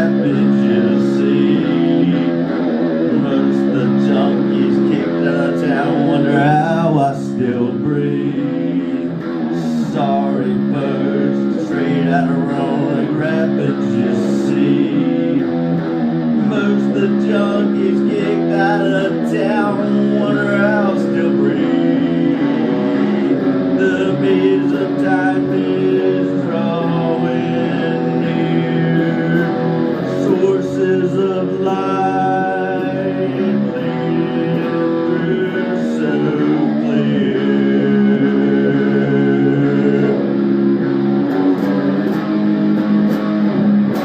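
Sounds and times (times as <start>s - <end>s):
guitar and bass music: 0.0s - 44.0s.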